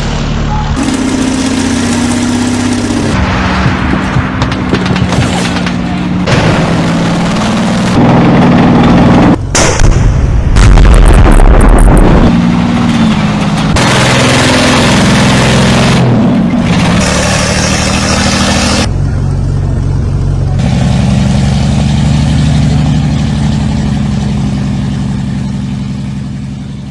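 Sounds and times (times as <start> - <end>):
heavy vehicle engine running: 0.0 - 26.9.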